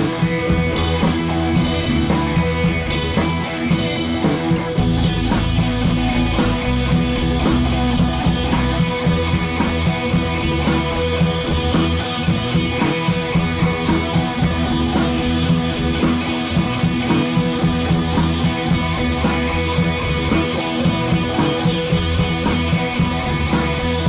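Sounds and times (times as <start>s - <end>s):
rock music with guitar and drums: 0.0s - 24.0s.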